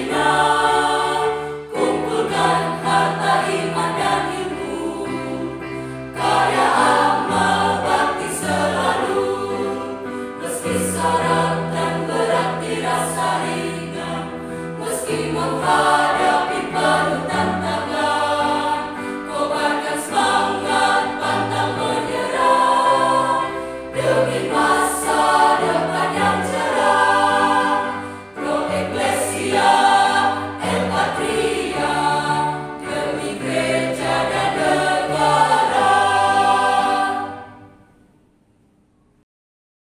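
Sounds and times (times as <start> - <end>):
choir singing a march: 0.0 - 37.8.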